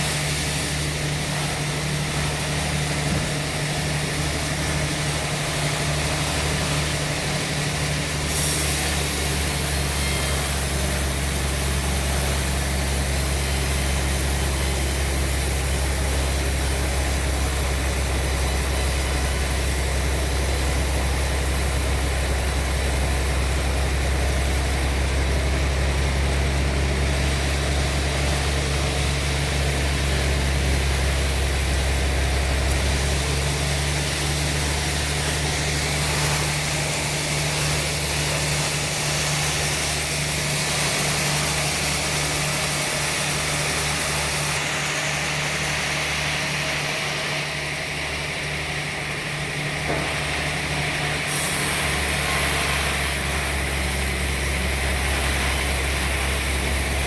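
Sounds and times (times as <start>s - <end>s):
engine low hum: 0.0s - 57.0s
sawmill machinery noise: 0.0s - 57.0s.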